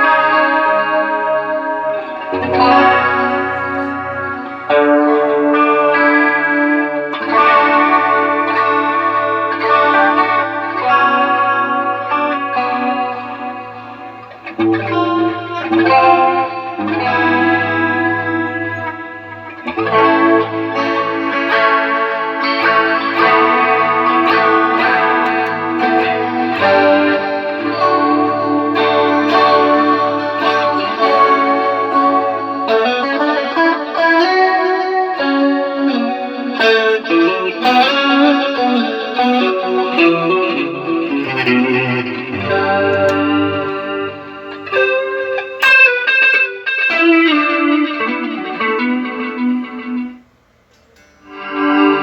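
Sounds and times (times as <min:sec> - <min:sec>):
electric guitar chords: 0:00.0 - 0:52.0.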